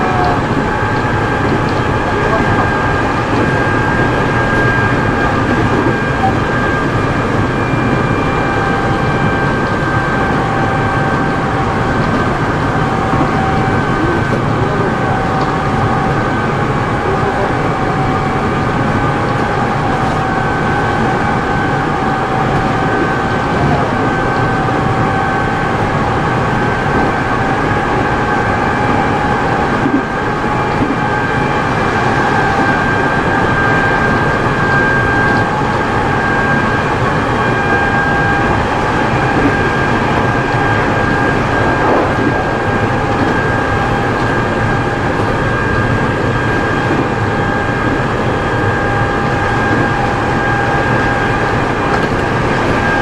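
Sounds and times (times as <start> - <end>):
train motor whine: 0.0 - 53.0
wheel and rail noise: 0.0 - 53.0.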